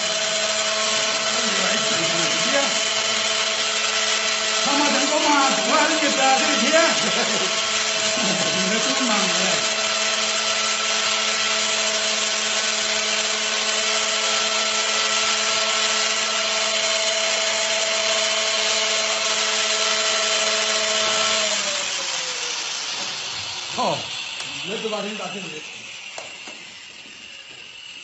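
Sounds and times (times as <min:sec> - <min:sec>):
angle grinder running: 0:00.0 - 0:28.0.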